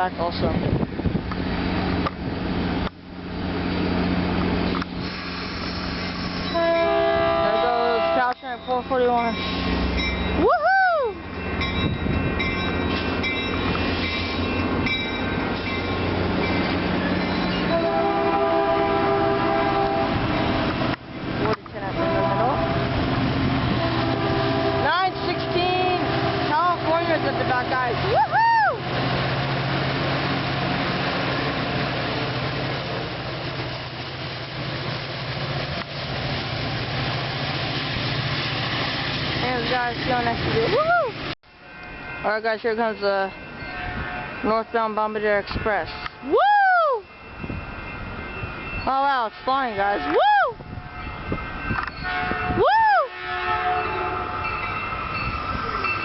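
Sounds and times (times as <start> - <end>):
diesel locomotive engine drone: 0.0 - 56.0
train rumbling past: 0.0 - 56.0.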